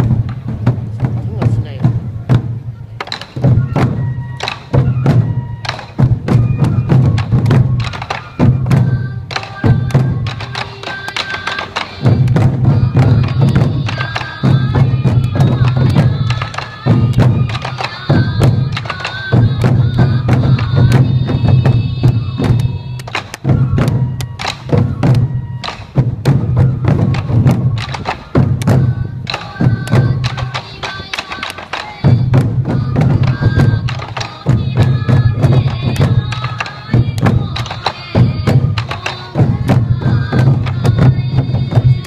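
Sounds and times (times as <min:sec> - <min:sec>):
taiko drums beating: 0:00.0 - 0:42.0
shrill bamboo flute melody: 0:01.5 - 0:42.0.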